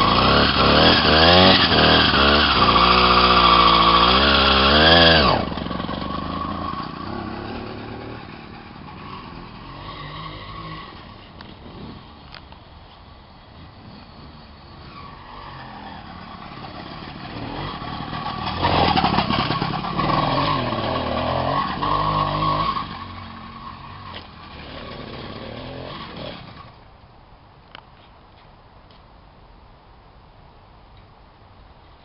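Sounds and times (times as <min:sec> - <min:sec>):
moped engine running: 0:00.0 - 0:26.8.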